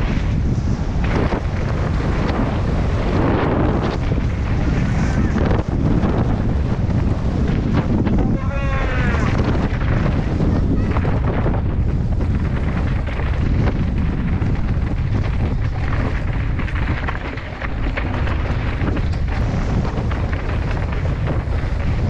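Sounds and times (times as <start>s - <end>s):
bike frame rattling and knocking: 0.0s - 22.0s
wind buffeting microphone: 0.0s - 22.0s.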